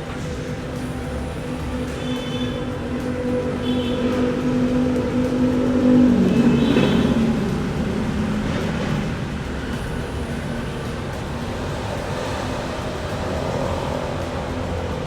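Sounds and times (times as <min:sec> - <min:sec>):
traffic noise: 0:00.0 - 0:15.0
vehicle motor humming: 0:00.0 - 0:15.0.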